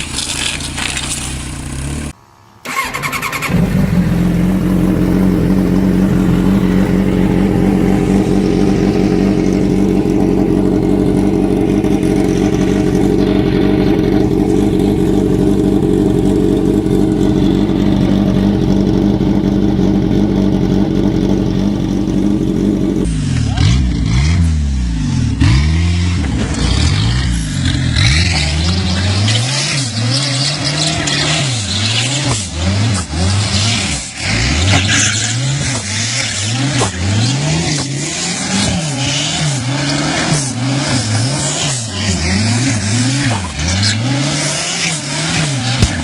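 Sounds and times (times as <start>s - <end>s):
tyre noise: 0.0s - 24.1s, 25.4s - 46.0s
go-kart engine revving: 0.0s - 46.0s.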